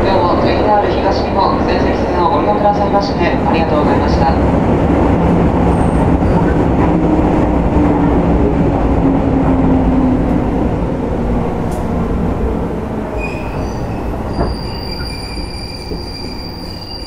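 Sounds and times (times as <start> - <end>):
electric train running in tunnel: 0.0 - 17.0.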